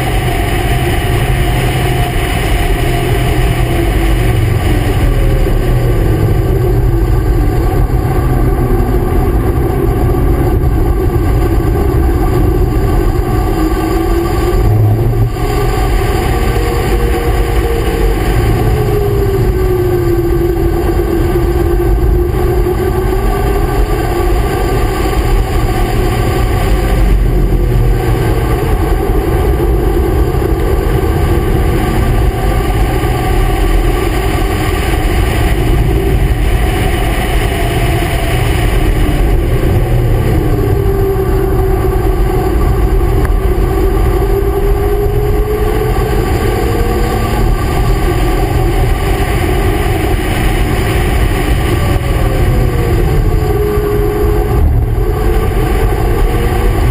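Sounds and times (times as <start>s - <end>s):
heavy wind: 0.0s - 56.9s
race car engine accelerating: 0.0s - 56.9s
road rumble: 0.0s - 56.9s.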